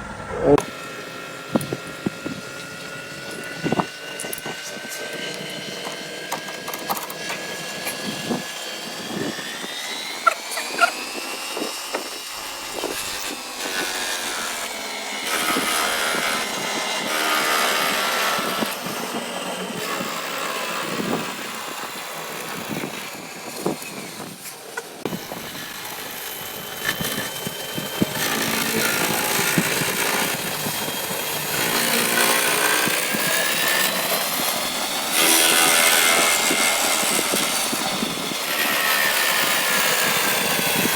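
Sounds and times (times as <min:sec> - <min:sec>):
machine tool motor whine: 0:00.0 - 0:40.9
rough cutting noise: 0:00.0 - 0:40.9.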